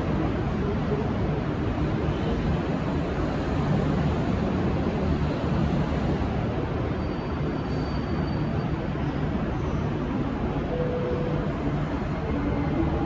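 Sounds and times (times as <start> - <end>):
diesel railcar engine hum: 0.0 - 13.0.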